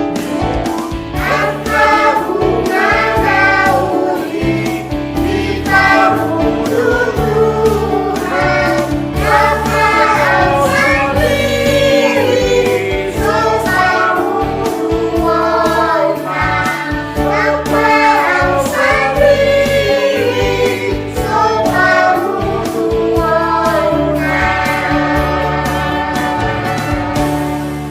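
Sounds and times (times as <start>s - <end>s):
instrumental accompaniment with bass: 0.0s - 27.9s
group singing a hymn: 1.2s - 27.9s.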